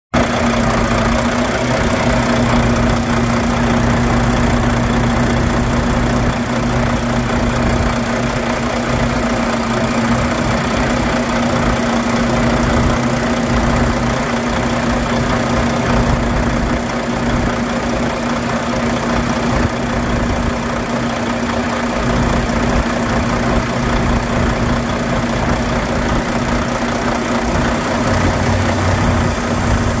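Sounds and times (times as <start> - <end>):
diesel engine idling: 0.2 - 30.0.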